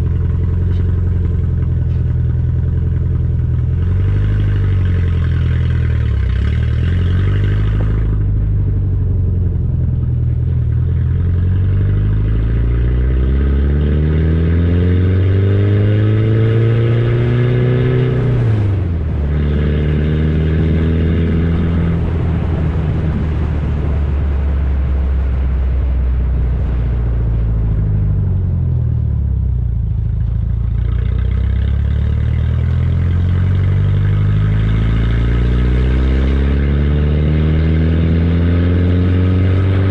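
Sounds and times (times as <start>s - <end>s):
loud car engine revving: 0.0s - 29.3s, 30.5s - 39.9s.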